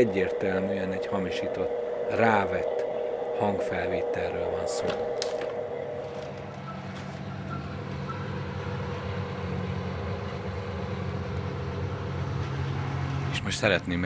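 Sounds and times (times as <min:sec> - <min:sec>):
distant rumble: 0:00.0 - 0:13.6
low droning hum: 0:00.0 - 0:13.8.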